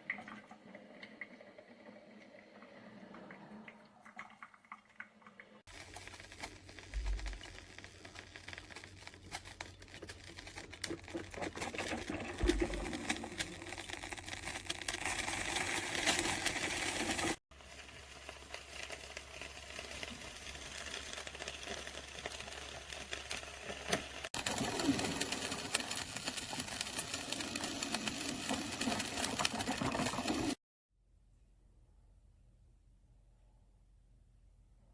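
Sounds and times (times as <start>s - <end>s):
coffee maker gurgling and sputtering: 0.0s - 30.6s.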